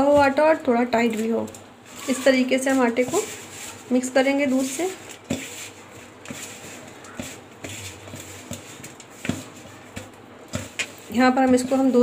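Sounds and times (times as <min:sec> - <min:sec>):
hand kneading dough in bowl: 0:00.0 - 0:12.0.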